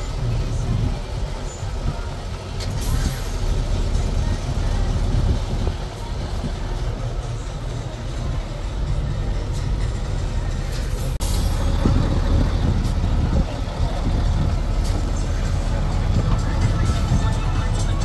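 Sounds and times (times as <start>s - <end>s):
heavy diesel truck engine rumbling: 0.0s - 18.0s.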